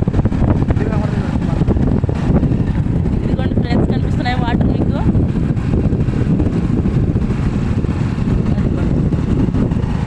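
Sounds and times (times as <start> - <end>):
moving vehicle rumble: 0.0 - 10.0.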